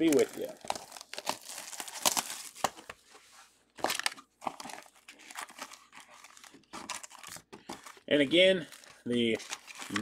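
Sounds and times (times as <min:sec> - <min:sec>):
foil packs rustling: 0:00.0 - 0:02.9, 0:03.8 - 0:10.0
shrink-wrap crinkling and tearing: 0:00.0 - 0:02.9, 0:03.8 - 0:10.0.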